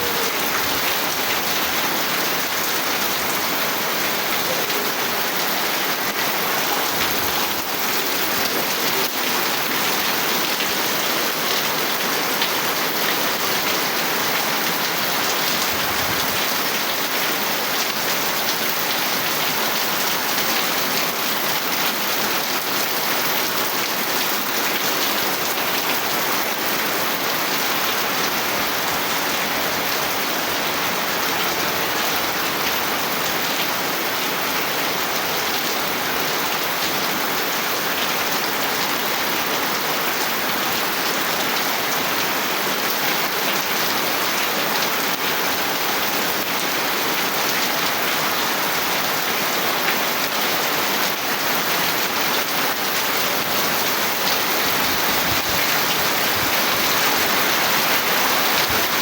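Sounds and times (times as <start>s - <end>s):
steady rain hiss: 0.1s - 59.0s.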